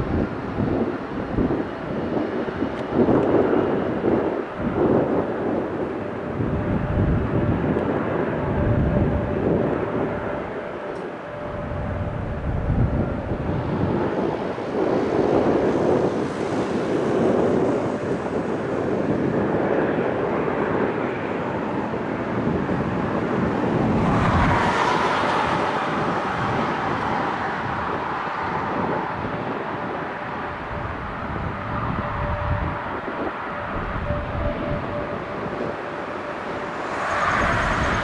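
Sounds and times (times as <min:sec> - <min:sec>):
jet engines running: 0:00.0 - 0:38.0
wind buffeting microphone: 0:00.0 - 0:38.0.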